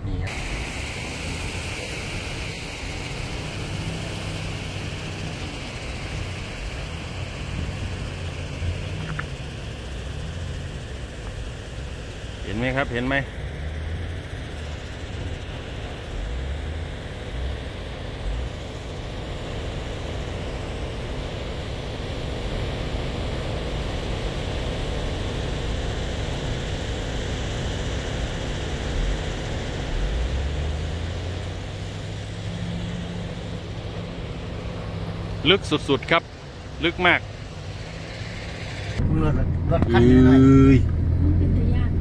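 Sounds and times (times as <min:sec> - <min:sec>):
engine drone: 0:00.0 - 0:42.0.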